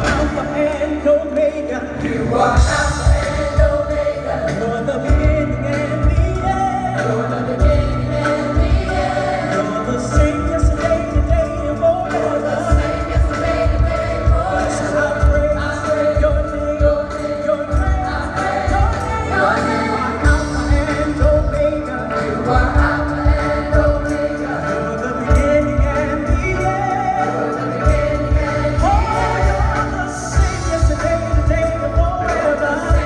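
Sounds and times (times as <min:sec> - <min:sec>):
bass and drums beat: 0:00.0 - 0:33.0
gospel choir singing: 0:00.0 - 0:33.0.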